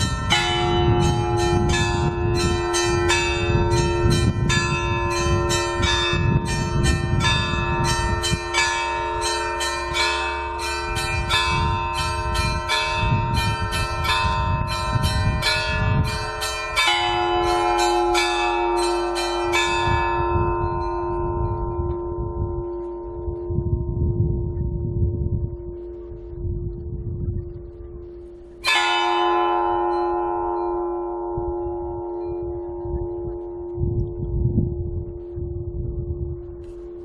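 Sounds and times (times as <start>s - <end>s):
small church bells ringing rapidly: 0.0s - 25.5s, 28.2s - 37.0s
deep bell ringing: 0.0s - 37.0s
hum of large bells: 0.0s - 37.0s.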